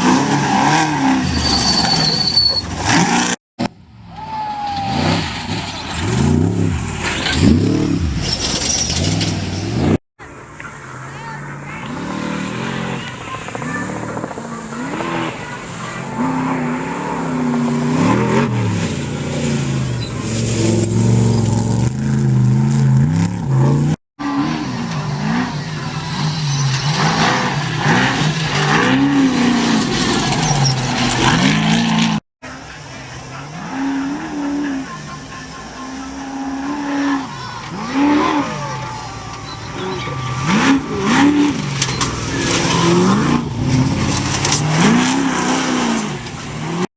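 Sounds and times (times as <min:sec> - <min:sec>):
race truck engines revving: 0:00.0 - 0:46.9.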